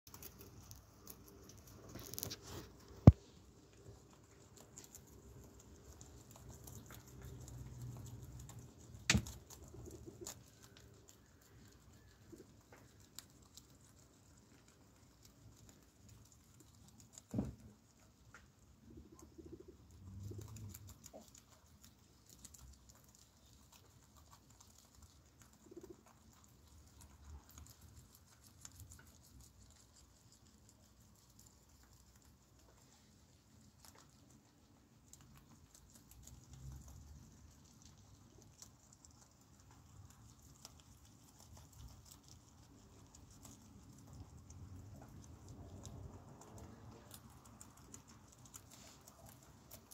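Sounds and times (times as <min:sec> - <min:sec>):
guinea pigs chewing leaves: 0:00.0 - 0:49.9.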